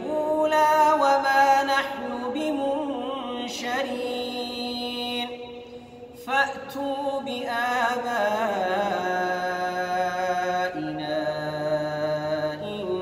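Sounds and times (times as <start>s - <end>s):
man chanting melodically: 0.0s - 5.6s, 6.2s - 13.0s.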